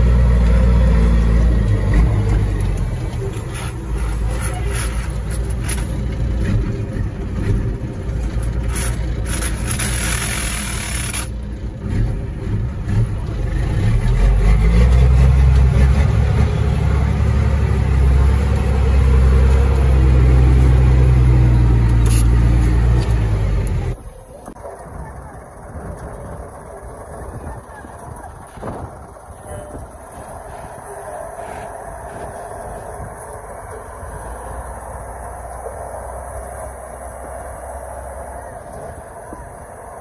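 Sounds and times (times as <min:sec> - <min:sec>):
diesel truck engine droning: 0:00.0 - 0:40.0.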